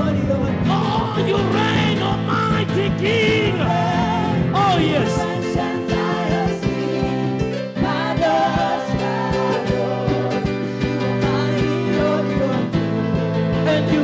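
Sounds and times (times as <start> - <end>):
steady drum beat: 0.0 - 14.0
wordless singing: 0.0 - 14.0.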